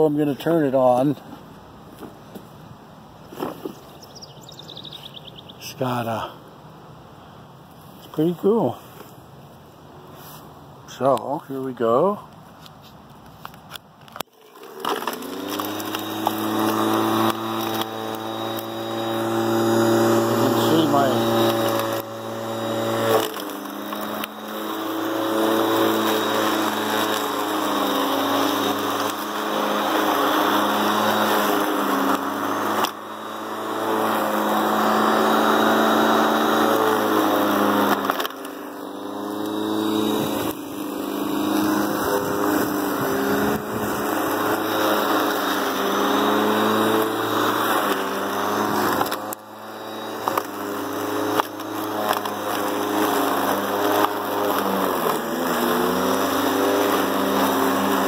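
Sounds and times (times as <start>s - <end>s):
blade cutting grass: 0.0s - 2.6s, 3.2s - 6.4s, 7.8s - 9.2s, 10.0s - 58.0s
electric lawn mower motor whine: 3.2s - 9.1s, 13.4s - 58.0s.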